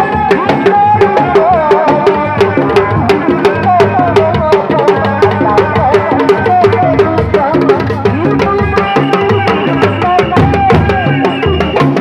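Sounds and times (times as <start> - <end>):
hand drums in fast rhythm: 0.0 - 12.0.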